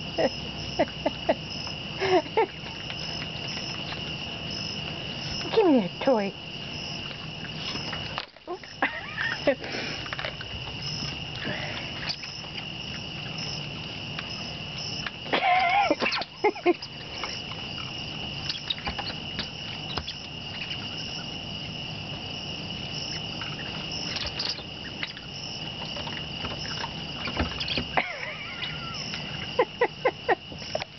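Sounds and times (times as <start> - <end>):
crickets trilling: 0.0 - 30.9.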